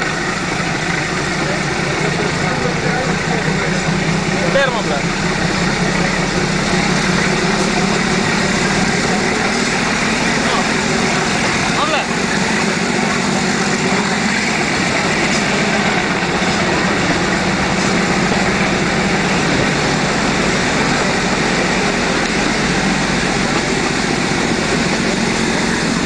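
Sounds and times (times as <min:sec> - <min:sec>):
train running on track: 0:00.0 - 0:26.0.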